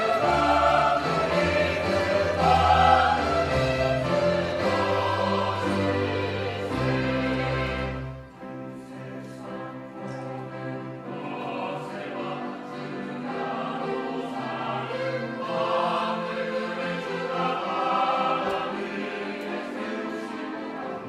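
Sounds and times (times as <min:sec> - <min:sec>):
church choir singing: 0:00.0 - 0:21.0.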